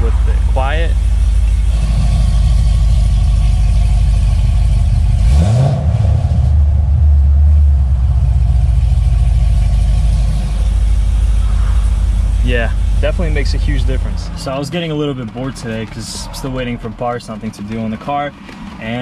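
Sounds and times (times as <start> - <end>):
car engine idling: 0.0 - 19.0
engine revving: 0.0 - 19.0.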